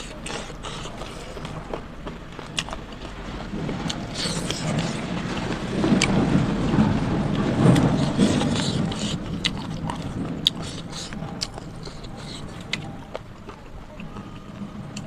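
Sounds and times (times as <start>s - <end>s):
chewing: 0.0s - 3.2s, 3.8s - 15.0s.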